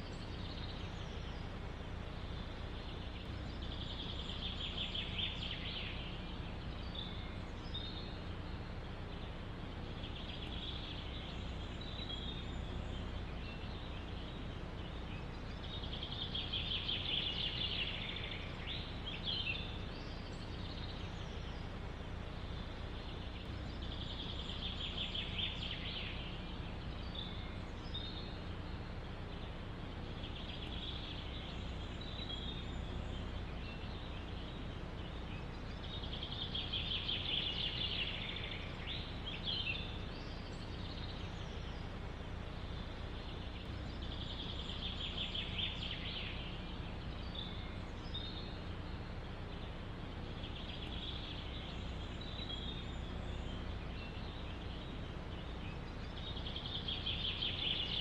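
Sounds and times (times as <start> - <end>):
low rumble of wind: 0.0 - 58.0
songbird trilling: 0.0 - 58.0.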